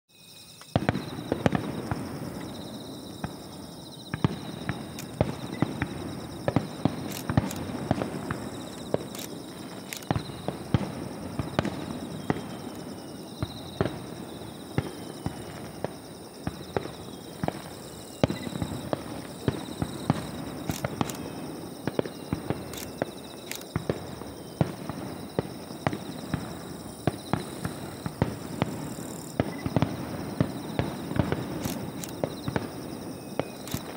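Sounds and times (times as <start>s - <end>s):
firework shells bursting: 0.6s - 33.9s
firework crackle: 0.7s - 33.9s.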